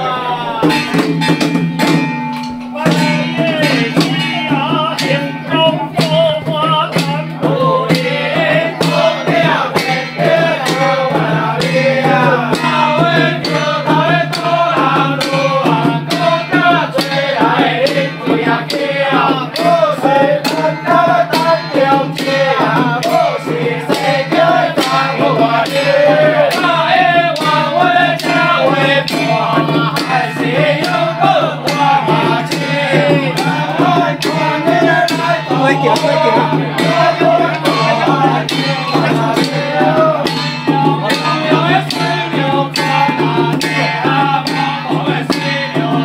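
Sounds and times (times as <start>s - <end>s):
ritual chanting: 0.0s - 46.0s
steady percussion: 0.0s - 46.0s.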